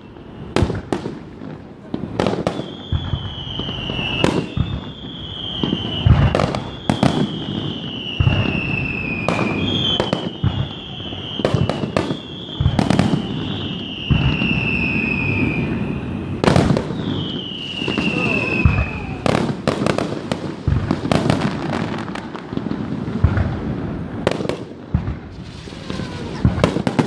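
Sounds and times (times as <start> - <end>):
descending firework whistles: 0.0 - 27.0.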